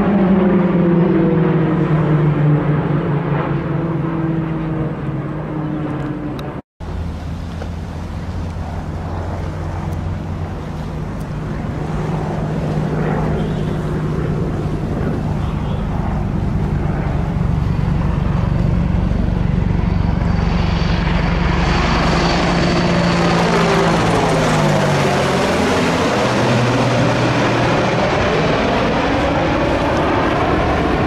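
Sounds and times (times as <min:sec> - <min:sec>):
helicopter rotor drone: 0:00.0 - 0:31.0.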